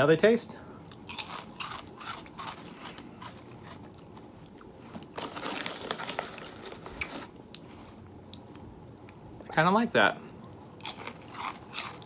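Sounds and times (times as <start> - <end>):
person chewing crunchy crackers: 0.8 - 9.4, 10.3 - 12.0.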